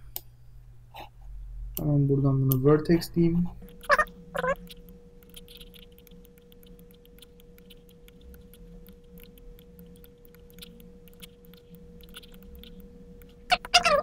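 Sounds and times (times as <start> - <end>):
high-pitched hum: 1.4 - 14.0.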